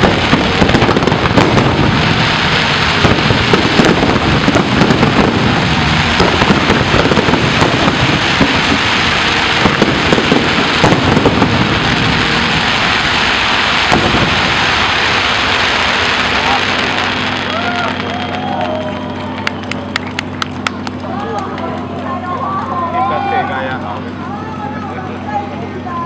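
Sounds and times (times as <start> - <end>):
fireworks bangs and crackles: 0.0 - 21.9.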